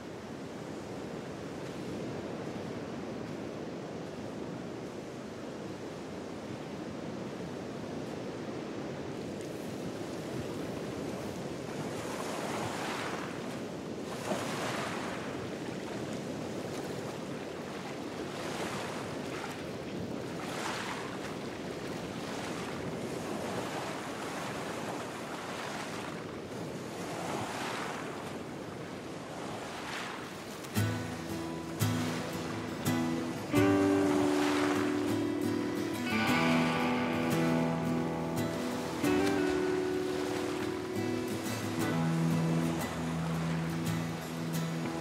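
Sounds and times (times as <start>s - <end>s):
small waves breaking on shore: 0.0s - 45.0s
steady rush of water: 0.0s - 45.0s.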